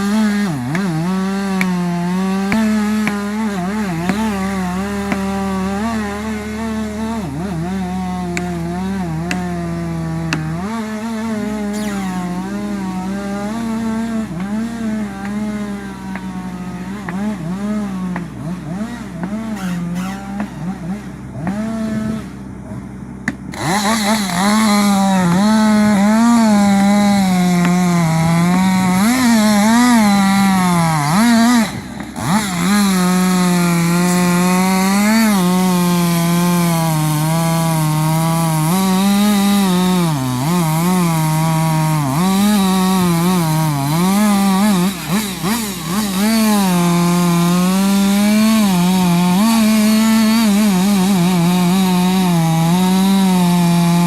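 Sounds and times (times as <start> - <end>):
chainsaw cutting tree trunk: 0.0 - 54.0.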